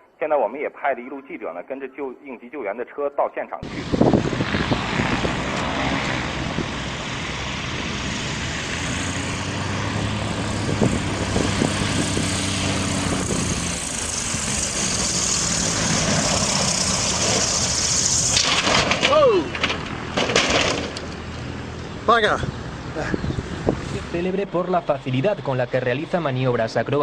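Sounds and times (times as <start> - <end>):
aircraft engine drone: 3.6 - 27.0.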